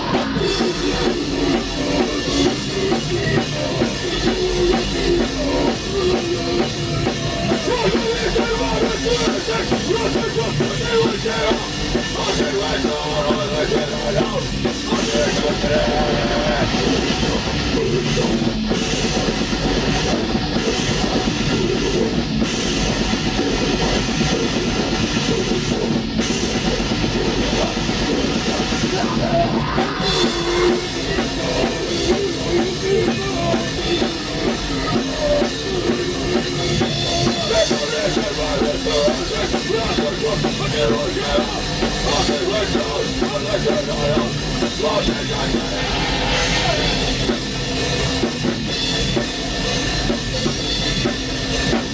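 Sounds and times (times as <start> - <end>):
black metal band playing: 0.0 - 51.9
drum kit: 0.0 - 51.9.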